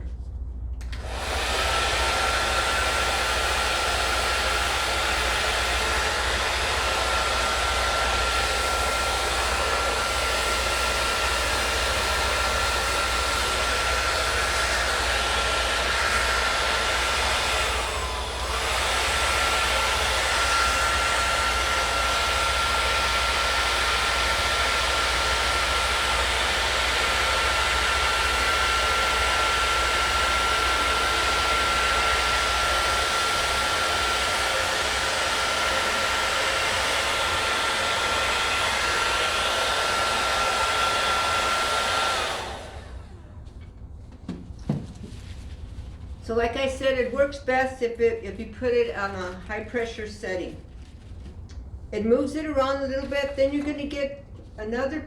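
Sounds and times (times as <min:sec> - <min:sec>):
hair dryer blowing: 0:00.8 - 0:47.6.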